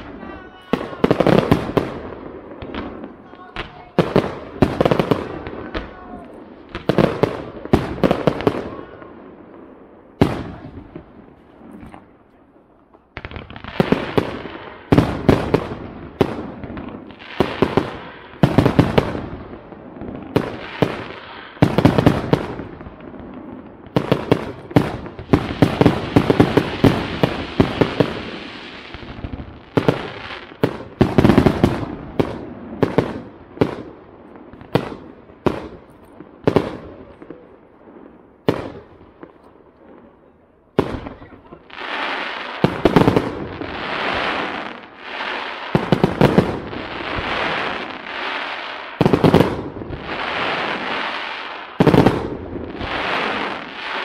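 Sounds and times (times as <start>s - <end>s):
fireworks bangs: 0.0s - 54.0s
fireworks crackling: 0.0s - 54.0s.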